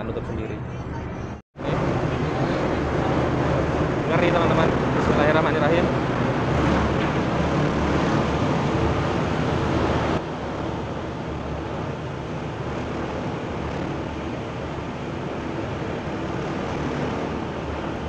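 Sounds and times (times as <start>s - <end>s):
ship engine rumble: 0.0s - 18.0s
wind on microphone: 0.0s - 18.0s
water rushing along hull: 1.6s - 18.0s.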